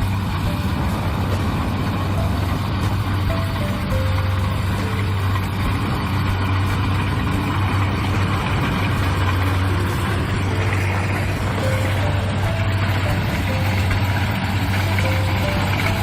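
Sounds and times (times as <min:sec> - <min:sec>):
diesel engine running: 0:00.0 - 0:16.0
machine rattling and whirring: 0:00.0 - 0:16.0.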